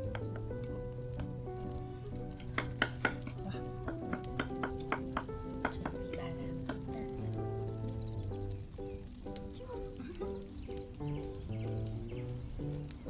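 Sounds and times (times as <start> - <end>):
meat sizzling over charcoal: 0.0 - 13.0
sharp crackles and ticks: 0.0 - 13.0
soft background music: 0.0 - 13.0.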